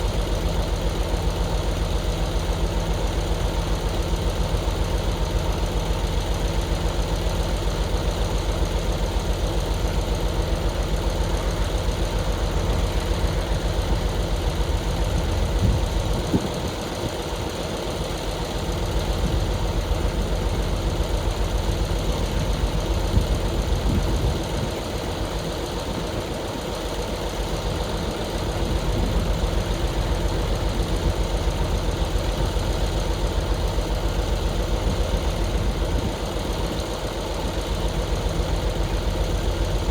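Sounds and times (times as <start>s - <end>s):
heavy equipment engine chugging: 0.0s - 39.9s.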